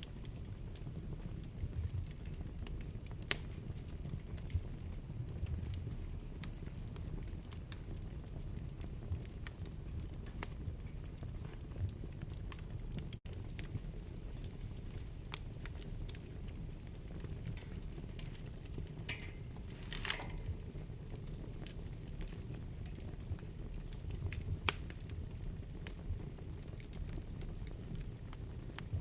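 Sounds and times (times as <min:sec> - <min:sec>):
fire crackles and pops: 0:00.0 - 0:29.0
low rumble of flames: 0:00.0 - 0:29.0.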